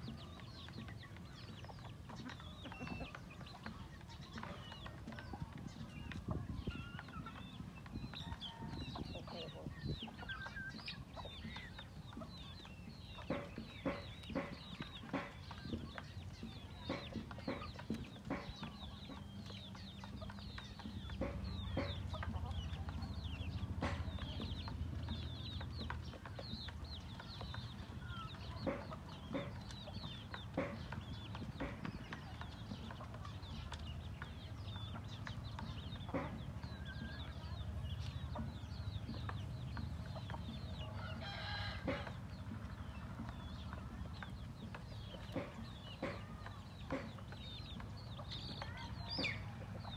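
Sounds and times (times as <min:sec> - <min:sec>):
chickens clucking: 0:00.0 - 0:49.9
chicks peeping: 0:00.0 - 0:49.9.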